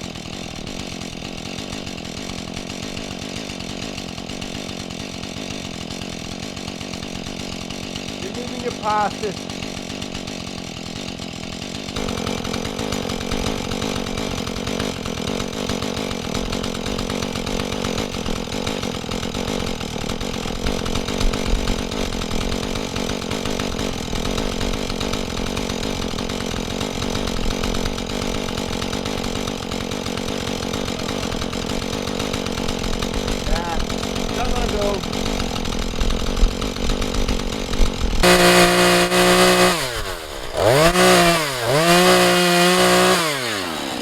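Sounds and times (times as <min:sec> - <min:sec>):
chainsaw at full throttle: 0:00.0 - 0:44.0.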